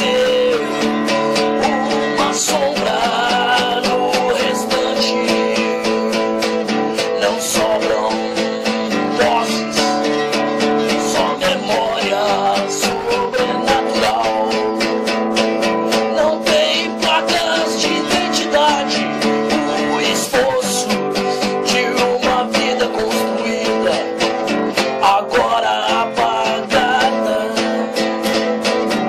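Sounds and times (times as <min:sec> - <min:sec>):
song with strummed acoustic guitar: 0:00.0 - 0:29.0.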